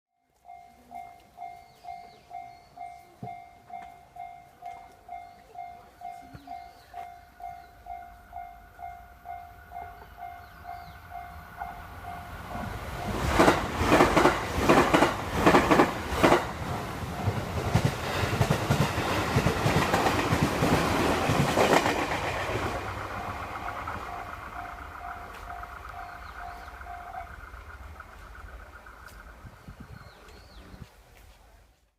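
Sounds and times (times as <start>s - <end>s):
railroad crossing bell clanging: 0.2s - 29.5s
electric train passing: 0.3s - 30.9s
train wheels clacking on rails: 0.5s - 30.6s.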